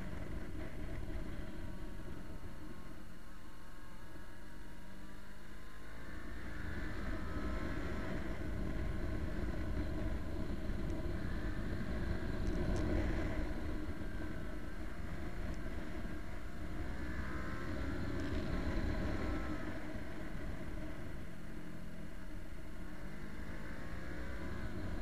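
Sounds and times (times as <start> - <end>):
wind rush and road noise: 0.0 - 3.6, 5.6 - 25.0
motorcycle engine running: 0.0 - 25.0.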